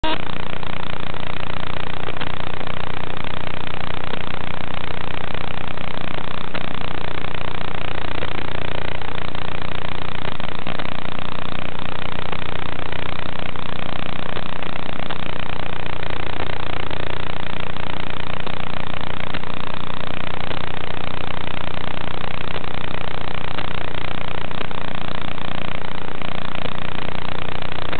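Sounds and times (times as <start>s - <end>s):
low electrical hum: 0.0s - 27.9s.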